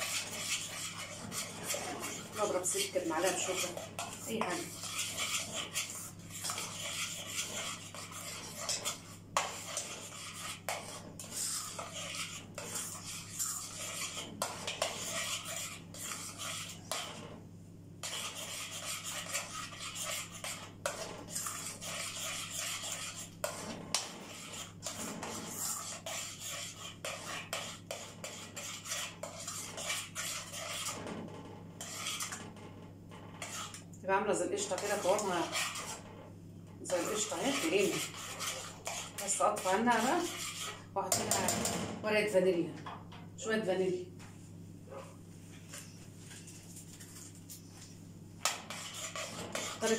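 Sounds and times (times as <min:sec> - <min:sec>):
spoon stirring and scraping pot: 0:00.0 - 0:41.9, 0:45.5 - 0:49.9.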